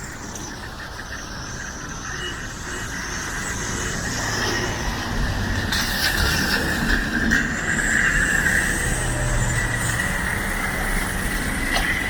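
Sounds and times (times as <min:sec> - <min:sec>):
vehicle engine and tyres approaching: 0:00.0 - 0:12.0.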